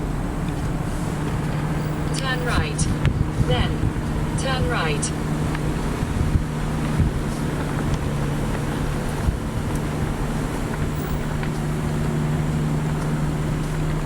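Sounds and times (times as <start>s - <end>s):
car engine hum and road noise: 0.0s - 14.0s.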